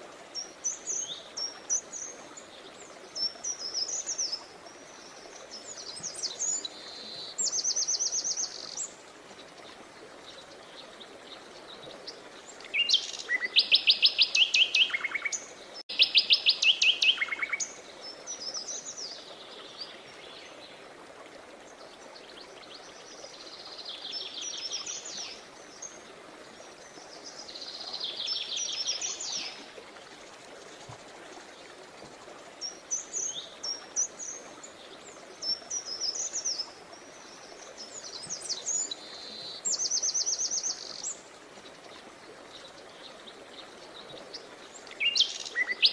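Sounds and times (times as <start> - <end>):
faint rushing water: 0.0 - 45.9.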